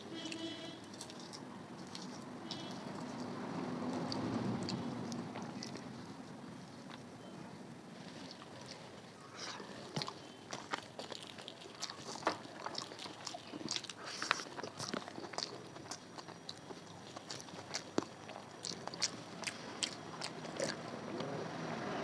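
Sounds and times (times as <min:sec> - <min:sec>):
person chewing crunchy food: 0:00.3 - 0:07.2, 0:08.0 - 0:21.6.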